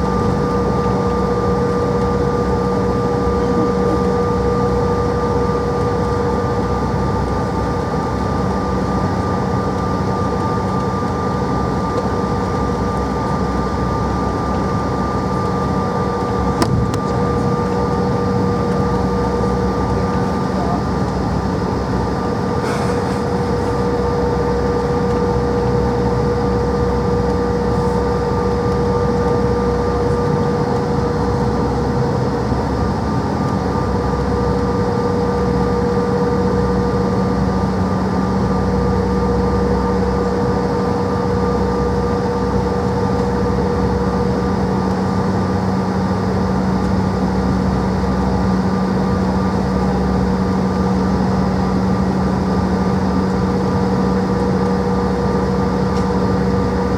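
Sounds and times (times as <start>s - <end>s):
jet engines heard from cabin: 0.0s - 56.9s.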